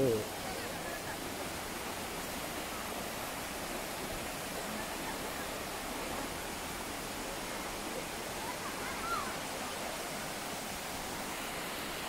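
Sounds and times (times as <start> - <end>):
shallow rocky river flowing: 0.0 - 12.0.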